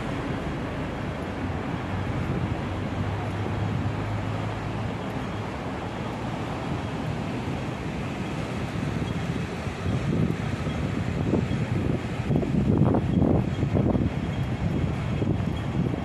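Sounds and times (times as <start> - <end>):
city road traffic: 0.0 - 16.0
wind on microphone: 0.0 - 16.0.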